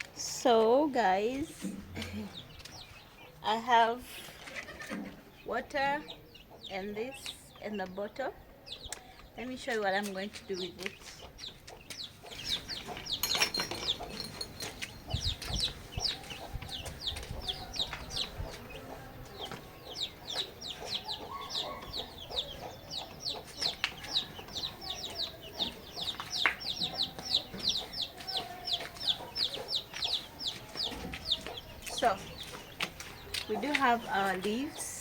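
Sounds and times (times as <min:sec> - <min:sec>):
chickens clucking: 0:00.1 - 0:35.0
chicks peeping: 0:01.2 - 0:35.0.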